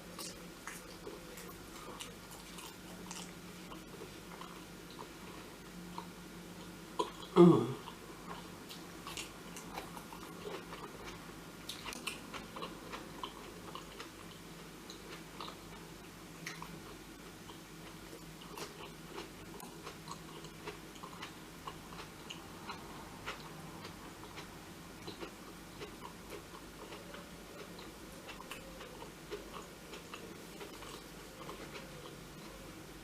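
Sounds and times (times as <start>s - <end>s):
person chewing food: 0.0s - 32.7s
faint low hum: 0.0s - 33.0s.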